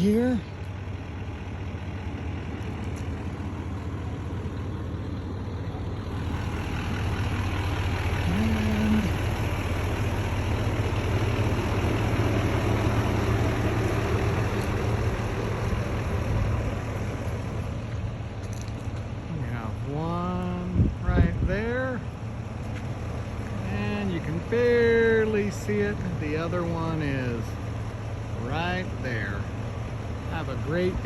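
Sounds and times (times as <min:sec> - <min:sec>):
road noise: 0:00.0 - 0:31.0
vehicle engine hum: 0:00.0 - 0:31.0.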